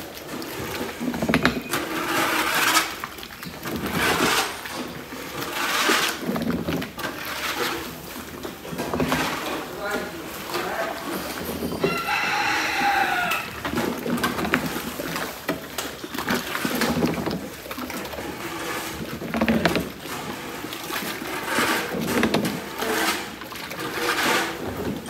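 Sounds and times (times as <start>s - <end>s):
feed sloshing in tub: 0.0s - 25.0s.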